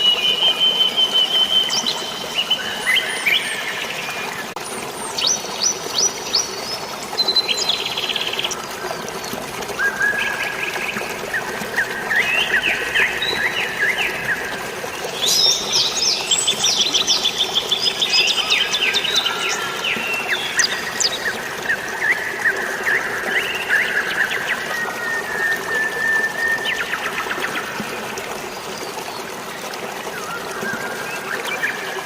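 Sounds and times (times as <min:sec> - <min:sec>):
songbirds chirping and trilling: 0:00.0 - 0:29.3
flowing water: 0:00.0 - 0:32.0.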